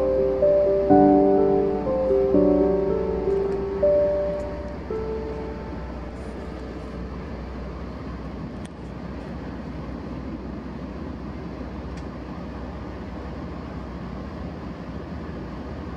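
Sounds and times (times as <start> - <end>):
train rumbling inside carriage: 0.0 - 15.9.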